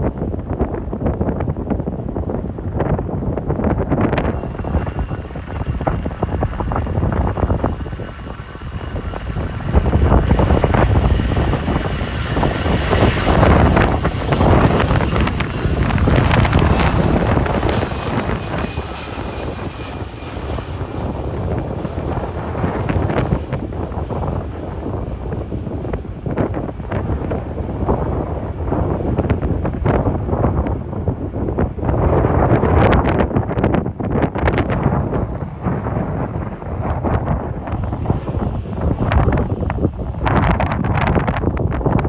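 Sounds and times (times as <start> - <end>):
airliner engines at takeoff: 0.0 - 42.0
wind buffeting microphone: 0.0 - 42.0.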